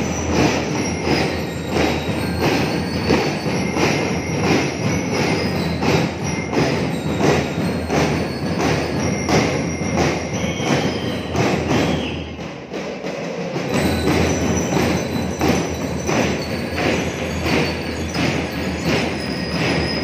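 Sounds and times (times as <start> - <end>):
high ringing bell tones: 0.0 - 11.9, 13.6 - 20.0
snare and bass drums marching: 0.0 - 20.0.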